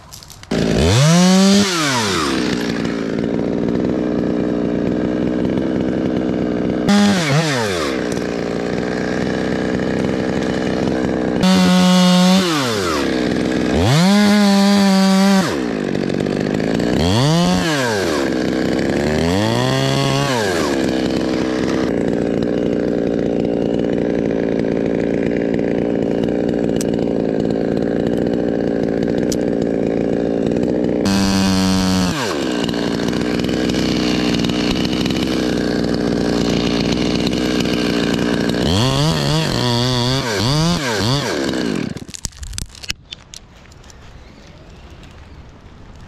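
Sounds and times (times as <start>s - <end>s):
chainsaw cutting tree trunk: 0.0s - 43.7s.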